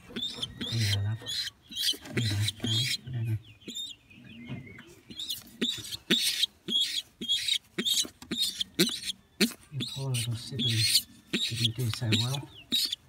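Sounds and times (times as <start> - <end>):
pigeon squab squeaking: 0.0 - 13.0.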